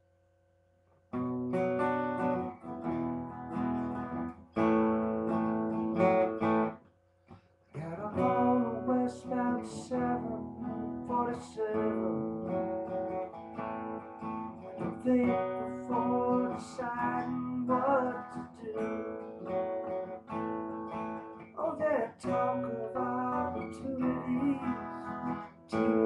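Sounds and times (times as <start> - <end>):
acoustic guitar strumming chords: 1.1 - 26.0.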